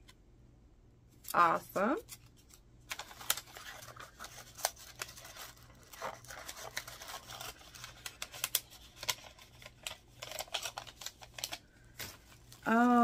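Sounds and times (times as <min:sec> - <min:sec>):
plastic packets and papers rustling: 0:01.2 - 0:13.0.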